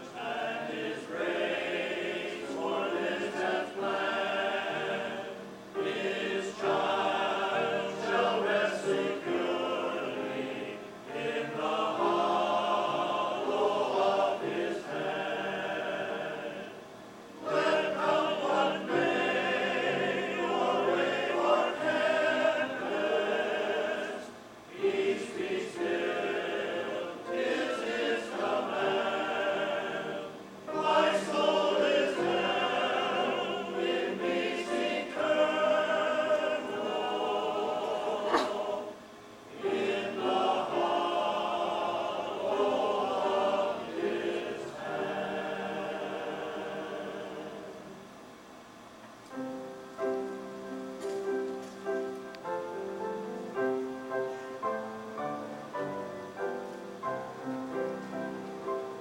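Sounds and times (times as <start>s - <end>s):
choir singing: 0.0s - 48.5s.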